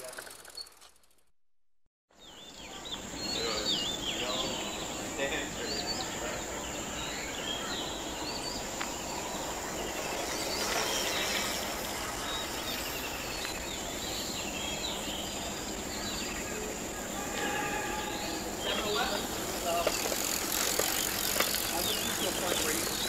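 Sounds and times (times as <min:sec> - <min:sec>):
birds chirping: 0:02.1 - 0:23.0.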